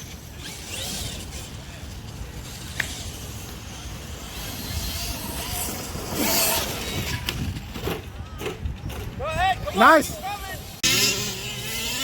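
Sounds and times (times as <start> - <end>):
distant model car engine running: 0.0 - 9.0, 10.6 - 12.0.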